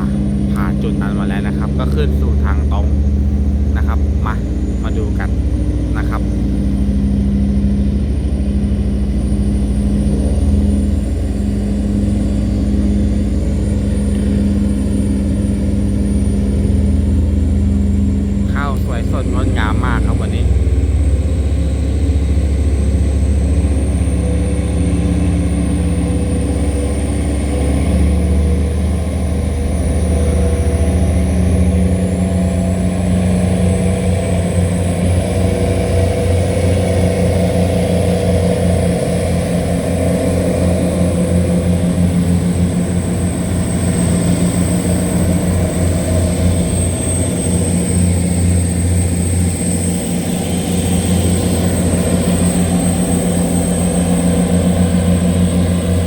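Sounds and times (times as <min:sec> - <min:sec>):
diesel engines droning: 0:00.0 - 0:56.0
thin high whine: 0:00.0 - 0:56.0.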